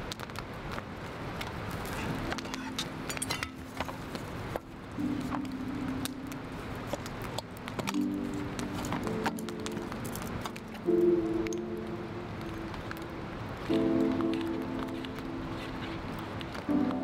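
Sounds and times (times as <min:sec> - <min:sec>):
background music held notes: 0:01.8 - 0:17.0.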